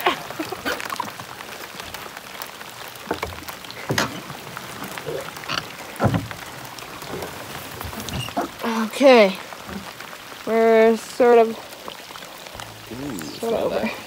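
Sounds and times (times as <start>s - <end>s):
heavy rain on water and canoe: 0.0s - 14.0s.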